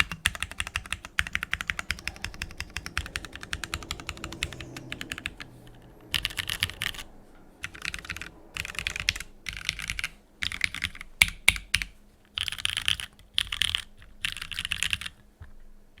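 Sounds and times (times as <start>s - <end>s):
mechanical keyboard typing: 0.0s - 5.4s, 6.0s - 7.0s, 7.6s - 15.2s.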